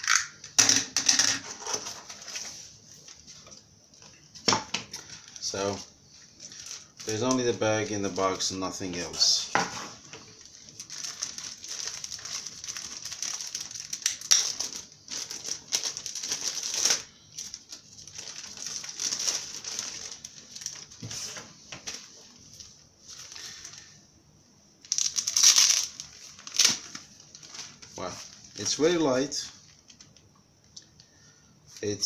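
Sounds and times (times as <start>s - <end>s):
packaging crinkling and rustling: 1.3s - 24.0s, 24.8s - 31.0s.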